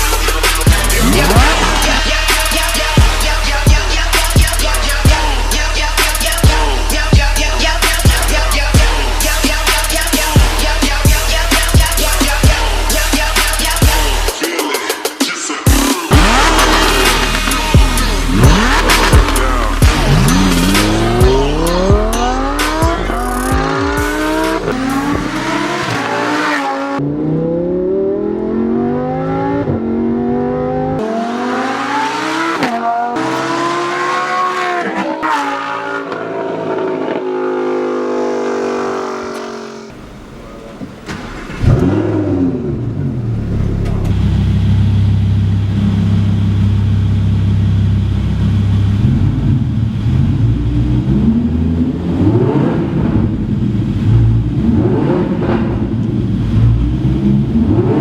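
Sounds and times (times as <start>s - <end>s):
engine revving: 0.0s - 14.4s, 15.7s - 58.0s
sports car engine accelerating: 0.0s - 14.4s, 15.9s - 58.0s.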